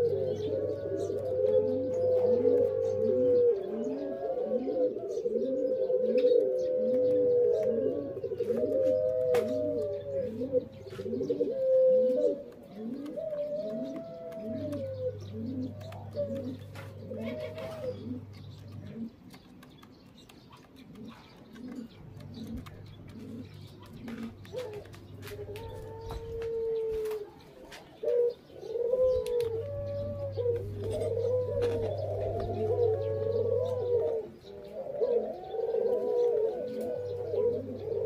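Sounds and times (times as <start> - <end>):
doves cooing: 0.0 - 38.0.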